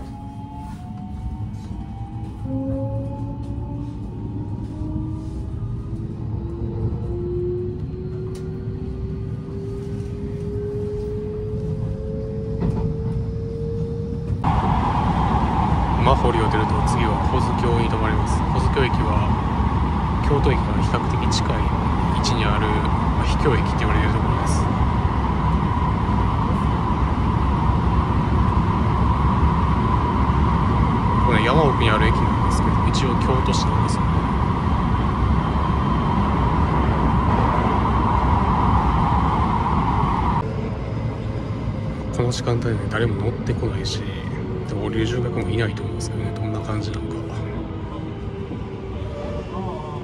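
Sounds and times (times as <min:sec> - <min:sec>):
train rumble: 0:00.0 - 0:50.0.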